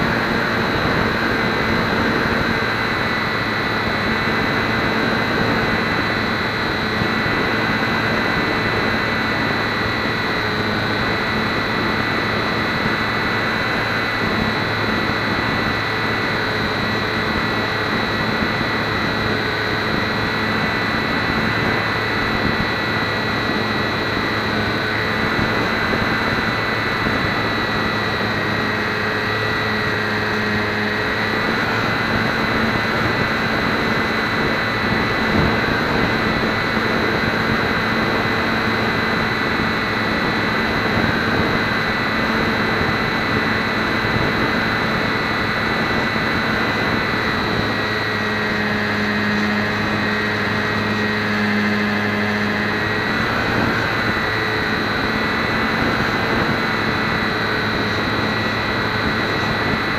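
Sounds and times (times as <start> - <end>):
small electric motor and propeller: 0.0 - 59.9
wind rushing over microphone: 0.0 - 59.9.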